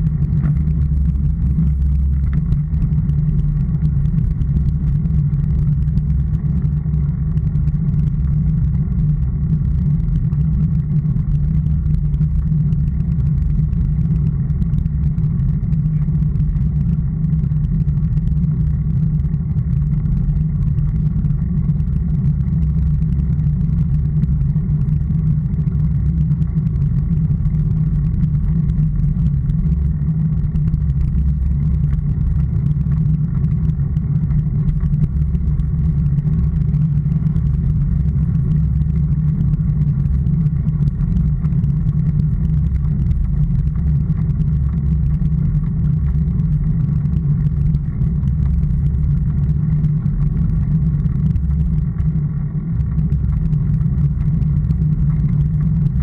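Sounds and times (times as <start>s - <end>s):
road vibration rumble: 0.0s - 56.0s.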